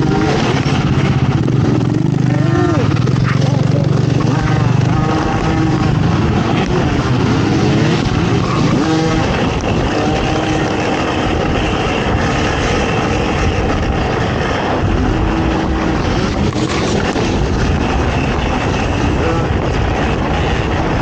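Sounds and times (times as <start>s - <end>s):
atv engine revving: 0.0s - 21.0s
loud steady rushing noise: 0.0s - 21.0s.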